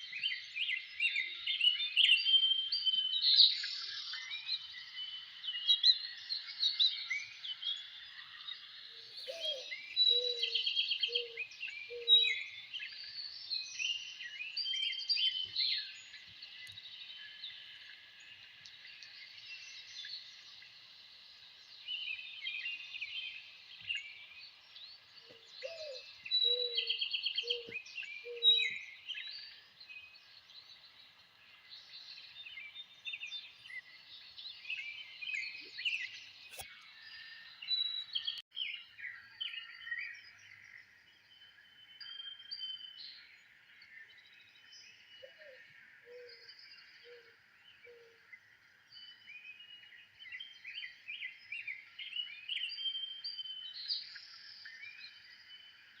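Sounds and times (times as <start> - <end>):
birds singing and chirping: 0.0 - 56.0.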